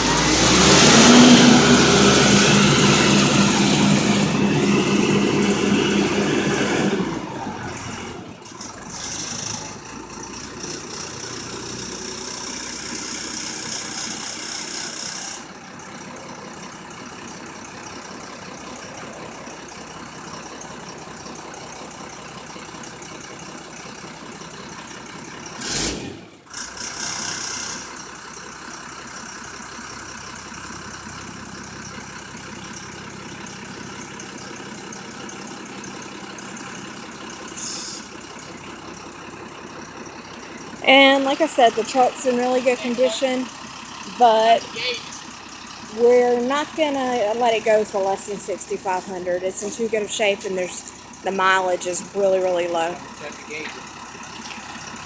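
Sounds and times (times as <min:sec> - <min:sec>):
truck engine idling: 0:00.0 - 0:55.0
truck engine running hard: 0:00.0 - 0:55.0.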